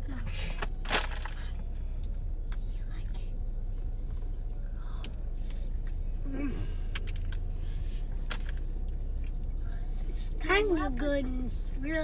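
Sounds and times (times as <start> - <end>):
car cabin engine hum: 0.0 - 12.0.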